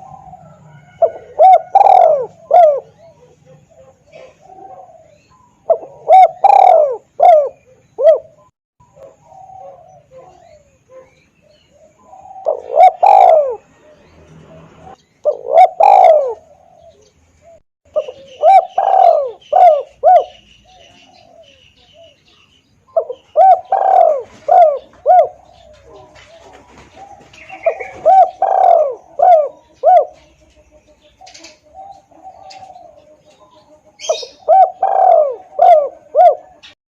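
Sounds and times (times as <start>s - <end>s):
dove cooing: 0.0s - 22.2s, 22.9s - 36.8s.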